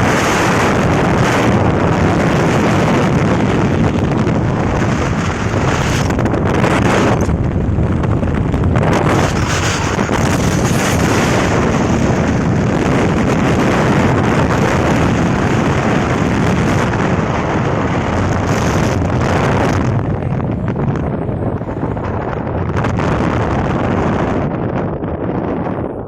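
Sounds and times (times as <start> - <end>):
vehicle running noise: 0.0 - 24.8
wind rushing over microphone: 0.0 - 26.0.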